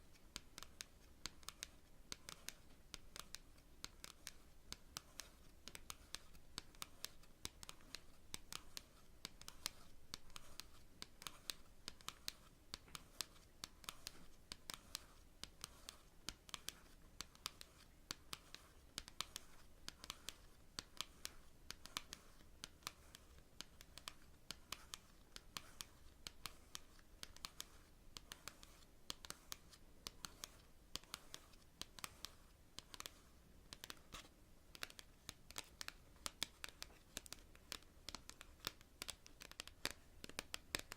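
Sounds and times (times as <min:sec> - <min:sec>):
soft nail scratching: 0:00.0 - 0:40.9
fingernails tapping on cards: 0:00.4 - 0:40.9.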